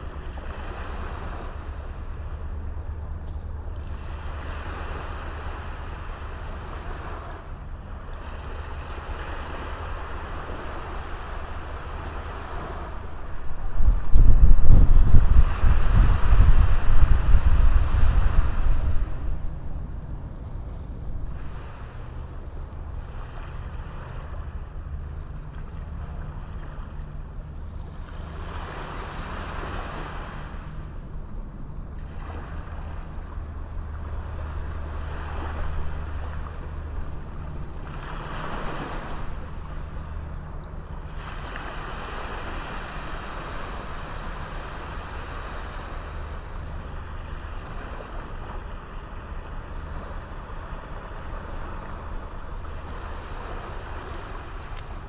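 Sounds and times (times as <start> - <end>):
waves washing onto beach: 0.0 - 55.0.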